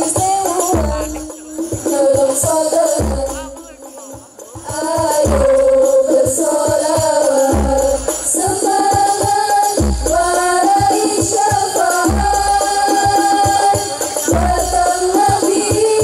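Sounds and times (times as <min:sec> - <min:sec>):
frame drums: 0:00.0 - 0:16.0
women singing devotional melody: 0:00.0 - 0:16.0.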